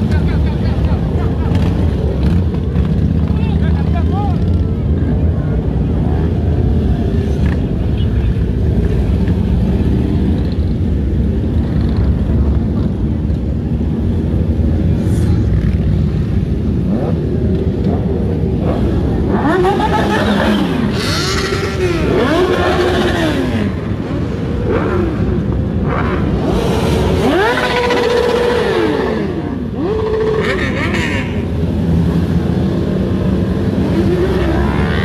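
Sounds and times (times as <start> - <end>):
motorcycle engines rumbling: 0.0 - 35.0
sport bikes revving: 0.0 - 35.0.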